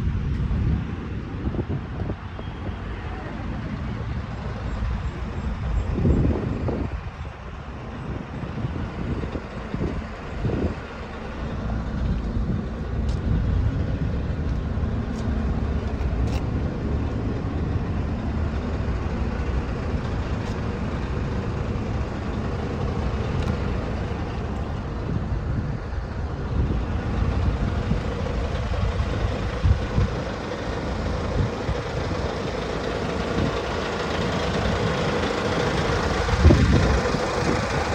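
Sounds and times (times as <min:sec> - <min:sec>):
diesel truck engine rumbling: 0:00.0 - 0:37.9.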